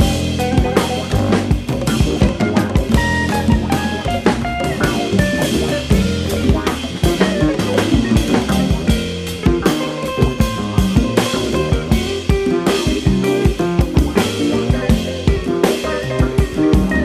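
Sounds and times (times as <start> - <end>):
pitched instrument notes: 0.0 - 15.4
acoustic bass line: 0.0 - 17.0
drum kit playing: 0.0 - 17.0.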